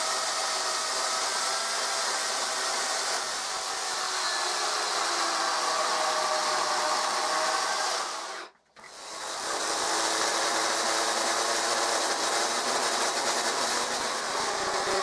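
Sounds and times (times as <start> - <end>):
electric chainsaw cutting wood: 0.0 - 15.0.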